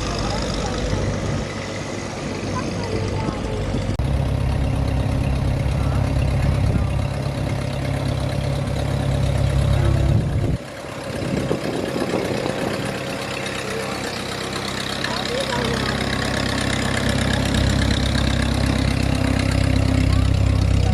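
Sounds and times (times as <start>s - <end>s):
heavy truck engine running: 0.0s - 20.9s.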